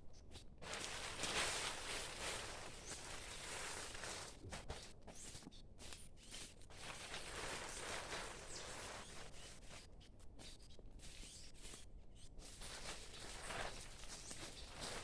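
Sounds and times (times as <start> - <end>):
footsteps rustling on leaf litter: 0.3 - 11.8, 12.4 - 15.0.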